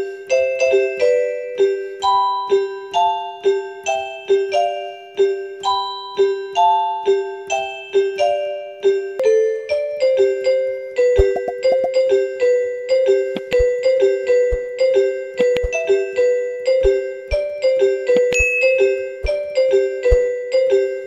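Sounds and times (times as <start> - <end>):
gentle keyboard melody: 0.0 - 21.0.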